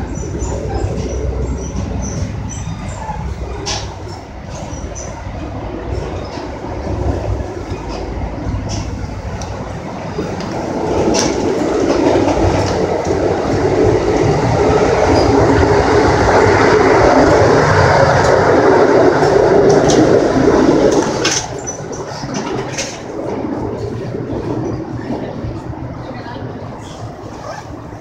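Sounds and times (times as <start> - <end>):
sharp clicks of train wheels: 0.0 - 25.2
train wheels rumbling on rails: 0.0 - 28.0.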